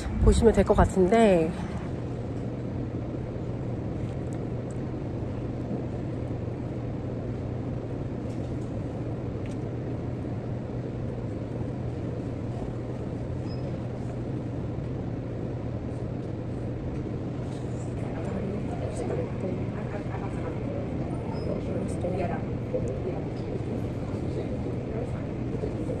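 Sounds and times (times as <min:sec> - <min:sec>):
rumbling background: 0:00.0 - 0:26.0
steady low hum: 0:00.0 - 0:26.0.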